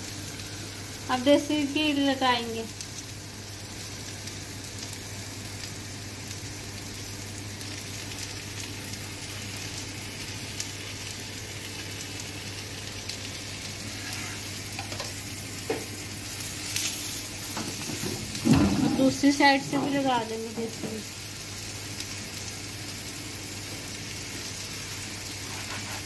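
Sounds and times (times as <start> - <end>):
flatbread sizzling on a griddle: 0.0 - 26.0.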